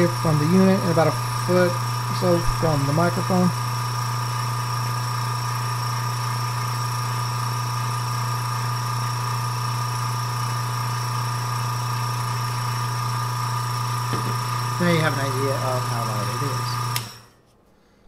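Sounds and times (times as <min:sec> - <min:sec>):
air compressor motor hum: 0:00.0 - 0:17.5.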